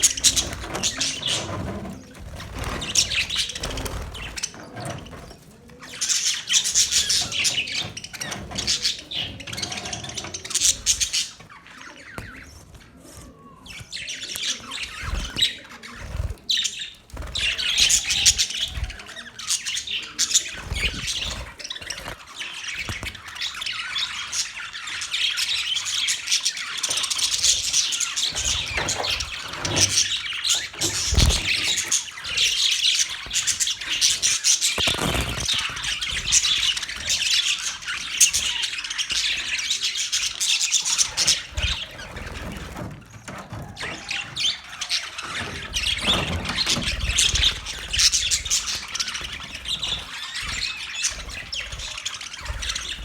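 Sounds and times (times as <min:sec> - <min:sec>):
budgerigars chattering: 0:00.0 - 0:12.7, 0:13.6 - 0:42.8, 0:43.7 - 0:53.0.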